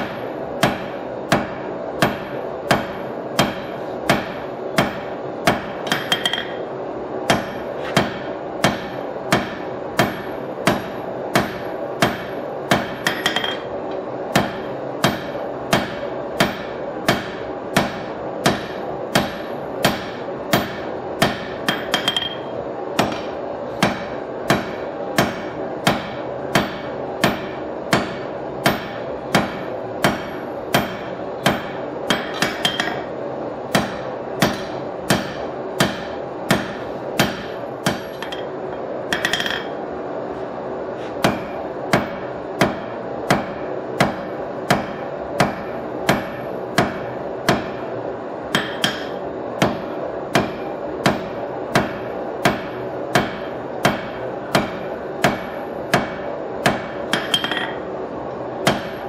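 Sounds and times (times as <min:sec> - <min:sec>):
hammer striking steel on anvil: 0:00.0 - 0:06.7, 0:07.3 - 0:13.7, 0:14.3 - 0:33.1, 0:33.7 - 0:39.8, 0:41.2 - 0:47.8, 0:48.5 - 0:57.8, 0:58.6 - 0:59.0
steady background hum: 0:00.0 - 0:59.0.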